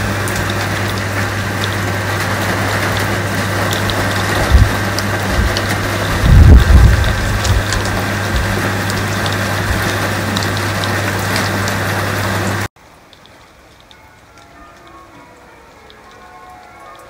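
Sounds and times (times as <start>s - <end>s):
light rain: 0.0s - 17.0s
torrential rain: 0.0s - 17.0s.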